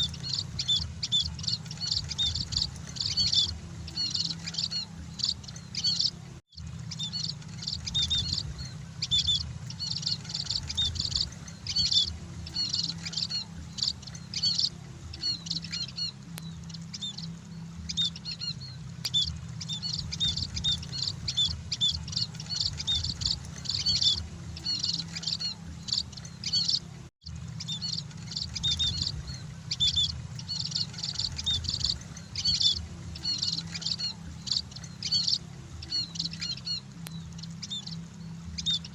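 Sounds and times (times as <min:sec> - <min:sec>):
flock of birds chirping: 0:00.0 - 0:38.9
low hum: 0:00.0 - 0:38.9.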